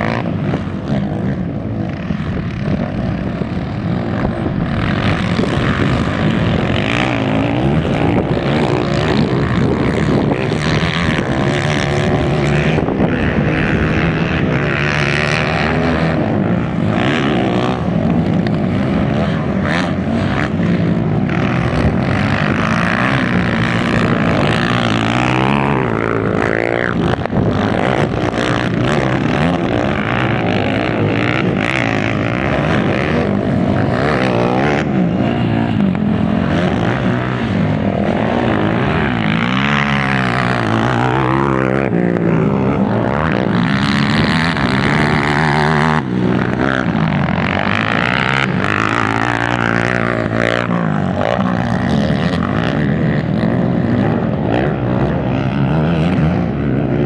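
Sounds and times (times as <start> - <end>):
dirt bike engines revving: 0.0 - 57.0
dirt bike passing close: 0.0 - 57.0.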